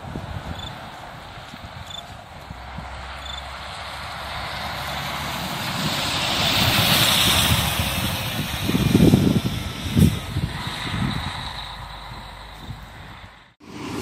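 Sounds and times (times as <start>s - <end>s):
coach bus driving past: 0.0s - 14.0s.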